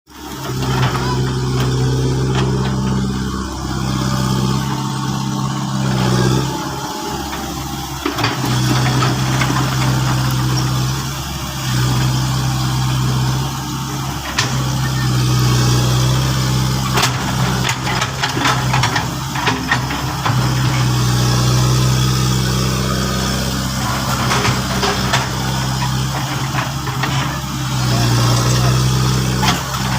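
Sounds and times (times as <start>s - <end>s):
excavator engine running: 0.1s - 29.9s.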